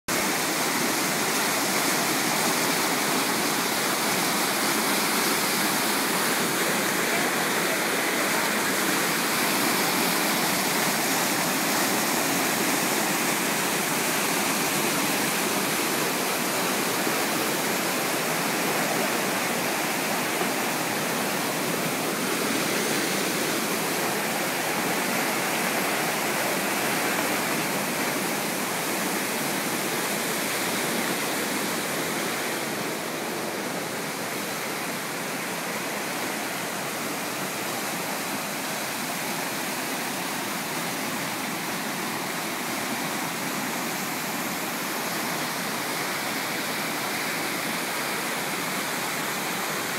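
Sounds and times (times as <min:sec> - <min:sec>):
creek rushing over rocks: 0:00.1 - 0:49.9.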